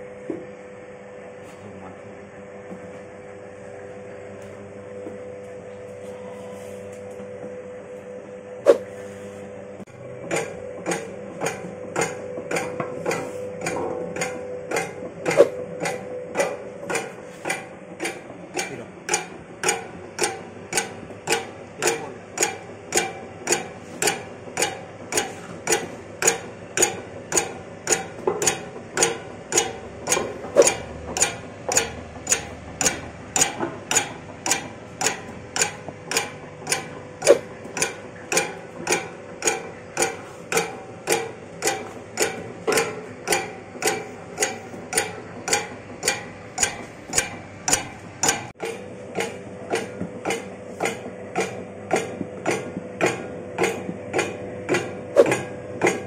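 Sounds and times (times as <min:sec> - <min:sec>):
motor and gearbox hum: 0:00.0 - 0:56.0.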